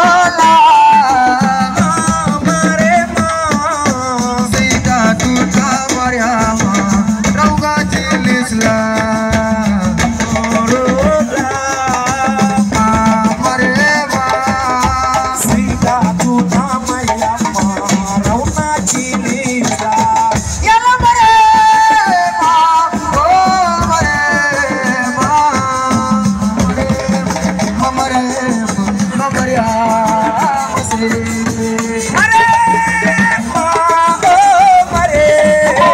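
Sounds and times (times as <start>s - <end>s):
drums: 0.0s - 35.9s
shaker rattles: 0.0s - 35.9s.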